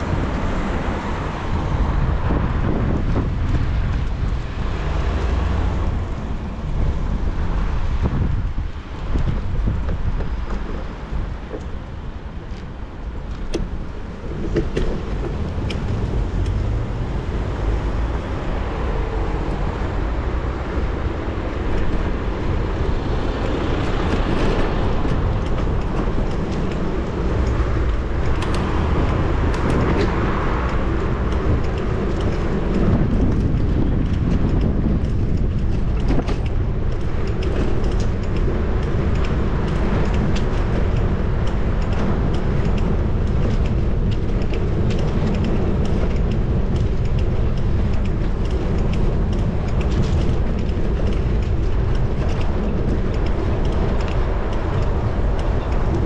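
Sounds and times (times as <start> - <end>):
cars passing: 0.0 - 56.0
wind and road noise rumble: 0.0 - 56.0.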